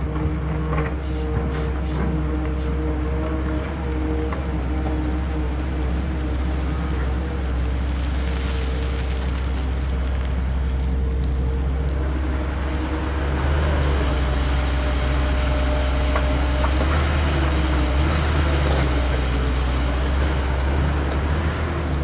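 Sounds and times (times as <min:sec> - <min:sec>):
heavy diesel engines running: 0:00.0 - 0:22.0.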